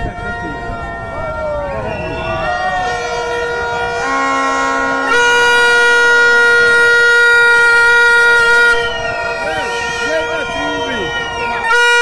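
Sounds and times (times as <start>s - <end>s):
horns blowing long notes: 0.0s - 12.0s.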